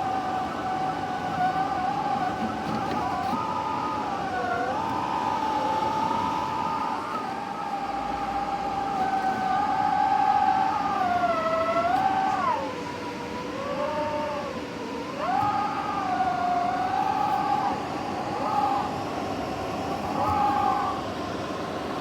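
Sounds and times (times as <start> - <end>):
whistling air conditioner fan: 0.0 - 22.0.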